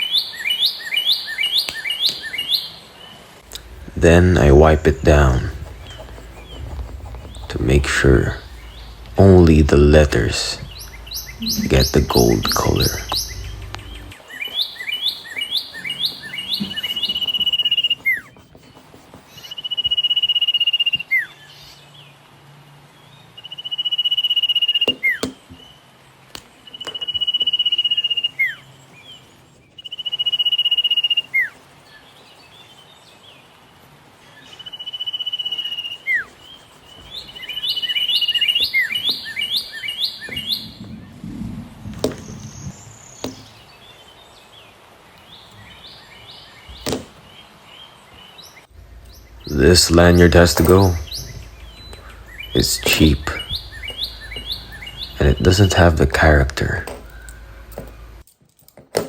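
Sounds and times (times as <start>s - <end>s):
bird singing: 0.0s - 22.2s, 23.0s - 33.6s, 34.2s - 58.2s.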